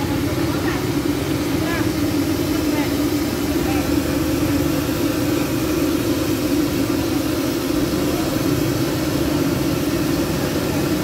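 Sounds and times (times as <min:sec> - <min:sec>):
gas burner drone: 0:00.0 - 0:11.0
oil hissing and bubbling: 0:00.0 - 0:11.0.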